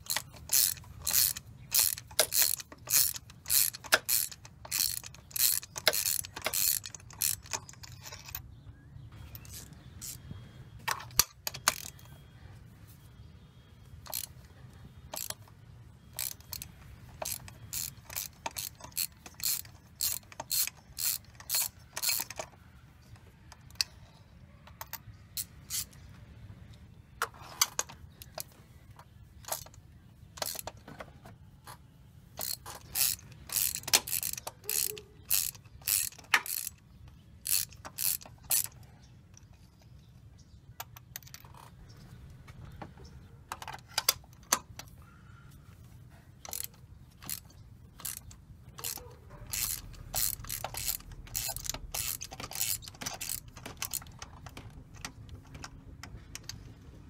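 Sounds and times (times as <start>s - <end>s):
socket ratchet clicking: 0.0s - 8.4s, 9.2s - 10.2s, 10.8s - 12.1s, 14.0s - 26.1s, 27.2s - 30.9s, 32.4s - 41.9s, 46.4s - 57.0s.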